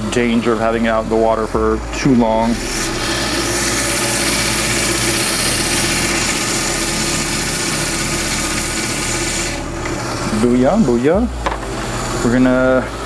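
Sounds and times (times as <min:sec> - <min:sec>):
band saw whirring: 0:00.0 - 0:13.0.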